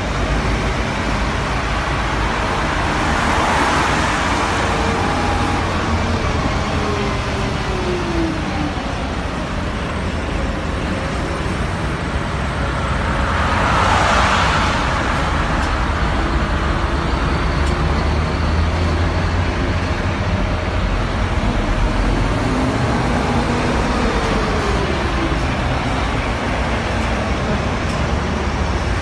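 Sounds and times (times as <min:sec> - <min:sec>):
coach engine rumble: 0:00.0 - 0:29.0.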